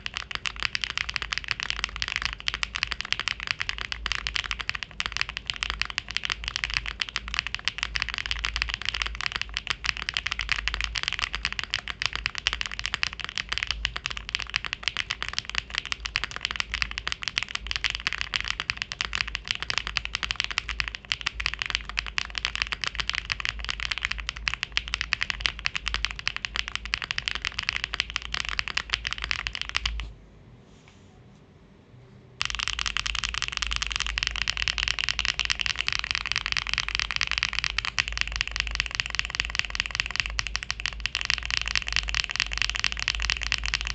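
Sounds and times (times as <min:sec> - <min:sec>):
mechanical keyboard typing: 0:00.0 - 0:30.1, 0:32.4 - 0:43.9.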